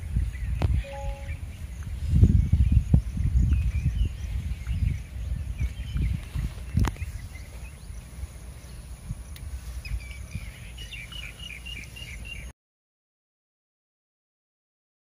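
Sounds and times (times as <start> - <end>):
low outdoor rumble: 0.0 - 12.5
bird chirping: 0.2 - 12.5.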